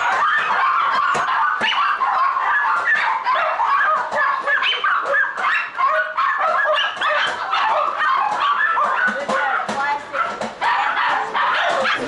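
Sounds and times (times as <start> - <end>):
many small dogs yapping: 0.0 - 12.0.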